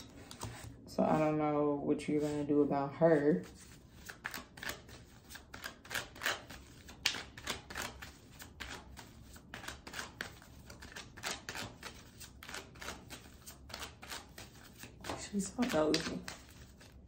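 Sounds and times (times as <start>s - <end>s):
cards being shuffled: 0.0s - 1.2s, 3.4s - 17.0s.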